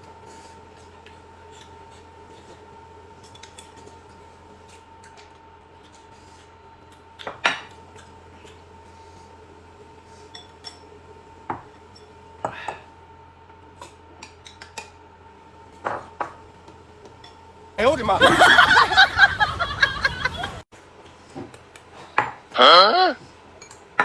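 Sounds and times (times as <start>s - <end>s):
faint steady hum: 0.0s - 20.7s.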